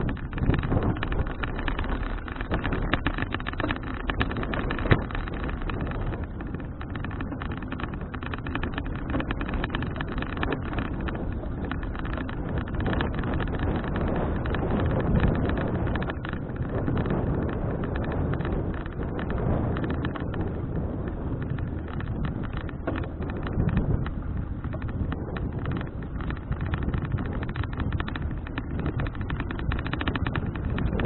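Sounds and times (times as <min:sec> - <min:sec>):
bicycle rattling clicks: 0:00.0 - 0:31.0
wind buffeting microphone: 0:00.0 - 0:31.0.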